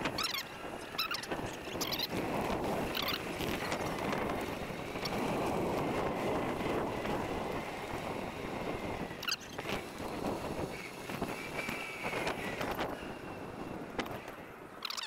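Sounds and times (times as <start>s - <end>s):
tyres rolling on pavement: 0.0s - 14.8s
wind on microphone: 0.0s - 14.9s.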